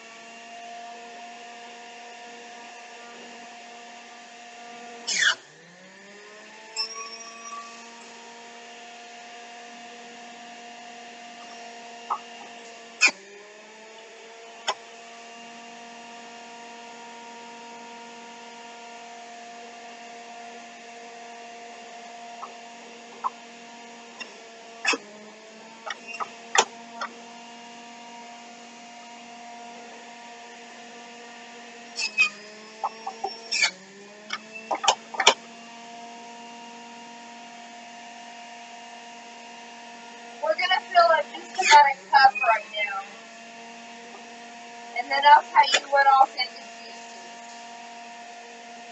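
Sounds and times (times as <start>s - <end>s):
electric juicer motor humming: 0.0s - 48.9s.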